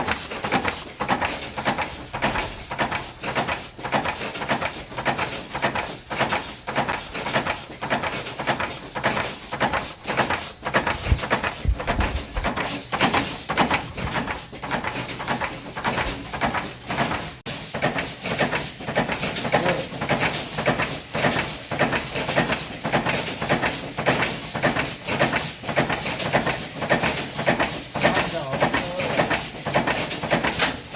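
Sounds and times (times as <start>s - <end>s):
mechanical press stamping: 0.0s - 17.3s, 17.9s - 30.9s.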